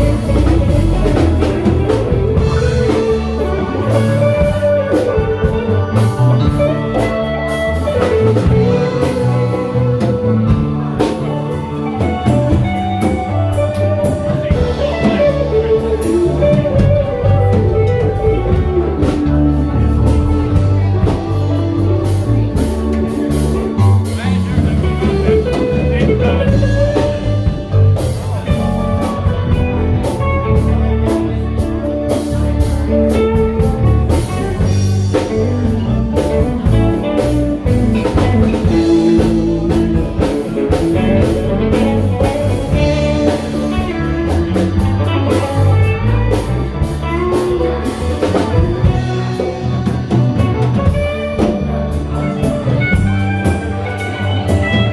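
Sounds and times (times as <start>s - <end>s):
live ragtime band with drums: 0.0s - 54.9s.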